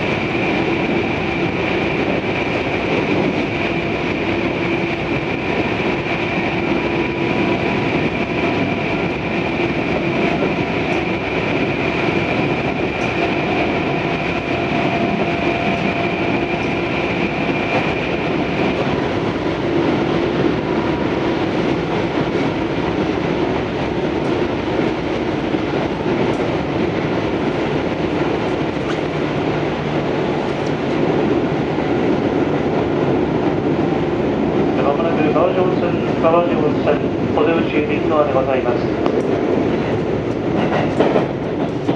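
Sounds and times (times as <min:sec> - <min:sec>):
wheels rumbling on rail: 0:00.0 - 0:41.9.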